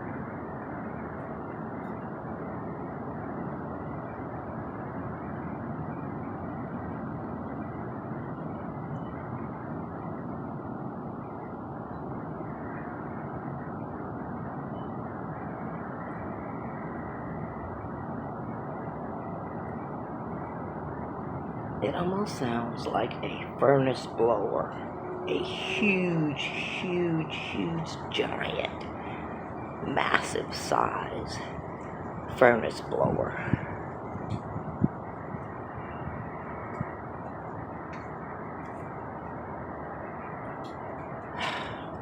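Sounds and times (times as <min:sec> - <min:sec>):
blowing rumbling drone from sky: 0:00.0 - 0:42.0.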